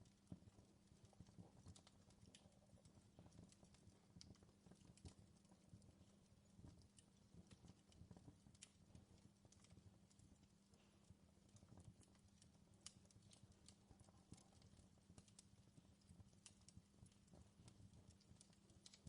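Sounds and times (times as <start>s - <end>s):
fireplace crackling: 0.0s - 19.0s.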